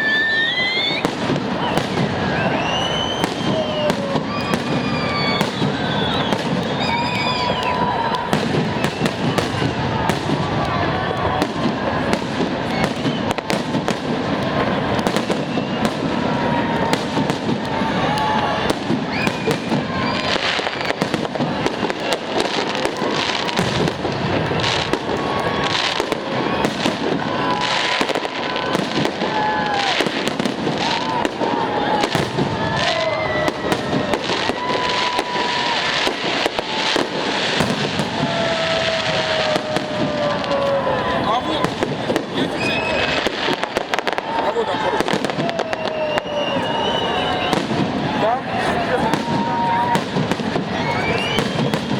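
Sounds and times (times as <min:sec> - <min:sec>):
fireworks bangs: 0:00.0 - 0:51.9
onlookers' voices: 0:00.0 - 0:51.9.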